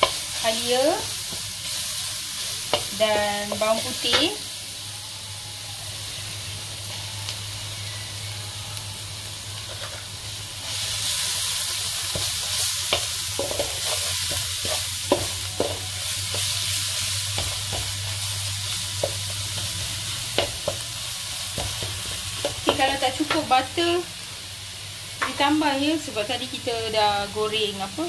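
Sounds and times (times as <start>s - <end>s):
ginger and garlic sizzling in butter: 0.0s - 28.0s.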